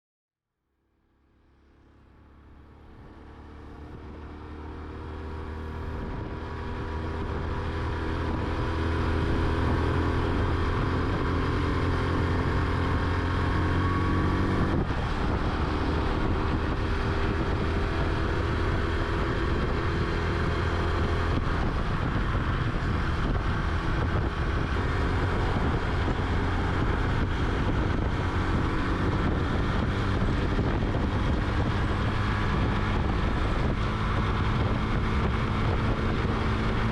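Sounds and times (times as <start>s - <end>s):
motorcycle engine running: 1.2s - 36.9s
wind noise on microphone: 2.9s - 36.9s.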